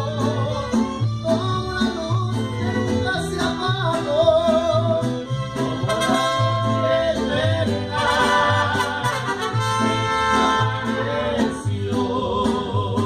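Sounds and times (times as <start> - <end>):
person singing with vibrato: 0.0 - 13.0
plucked bass: 0.0 - 13.0
strummed strings: 0.0 - 13.0.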